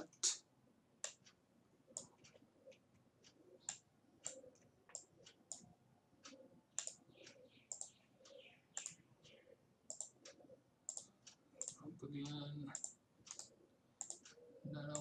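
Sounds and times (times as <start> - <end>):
faint mouse clicks: 1.0 - 15.0.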